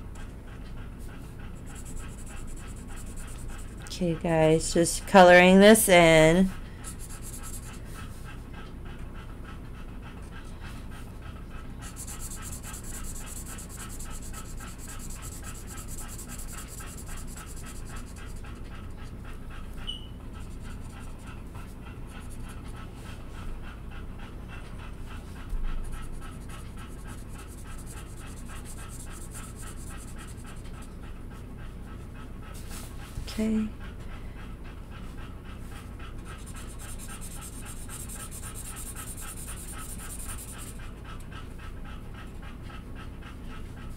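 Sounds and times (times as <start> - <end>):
dog panting: 0.0 - 43.9
low steady hum: 0.0 - 43.9.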